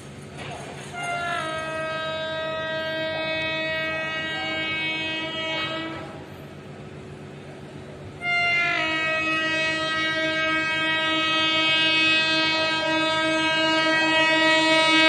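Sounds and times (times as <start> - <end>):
train horn blast: 0.9 - 6.5, 8.1 - 15.0.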